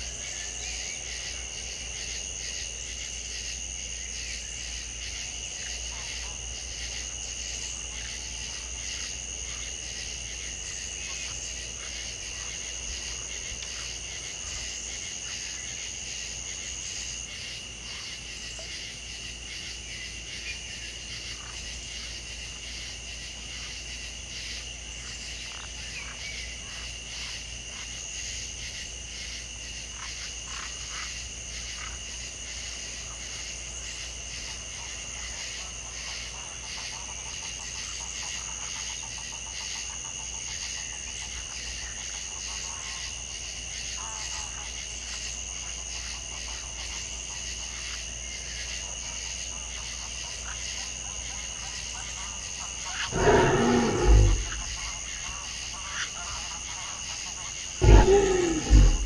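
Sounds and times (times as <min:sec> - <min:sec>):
crickets trilling: 0:00.0 - 0:36.3, 0:42.8 - 0:59.0.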